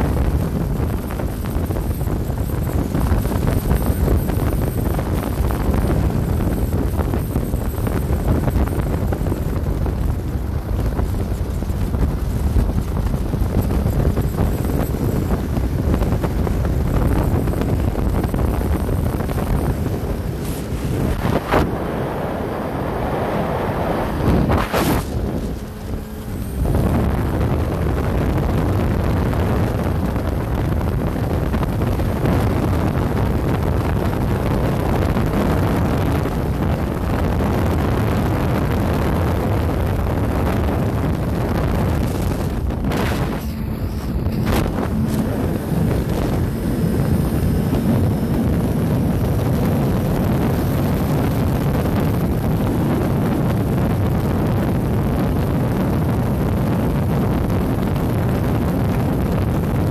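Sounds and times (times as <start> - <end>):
motorcycle engine running: 0.0 - 21.5, 24.4 - 59.1
wind buffeting microphone: 0.0 - 59.9.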